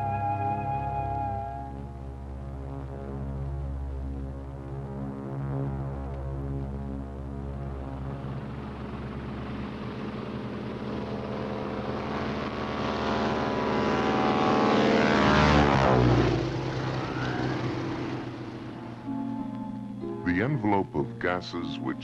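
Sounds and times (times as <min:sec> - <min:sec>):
biplane engine flying overhead: 0:00.0 - 0:22.0.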